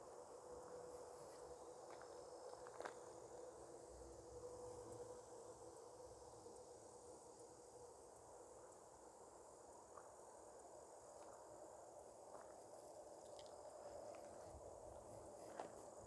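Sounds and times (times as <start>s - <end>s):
chorus of insects: 0.0s - 16.0s.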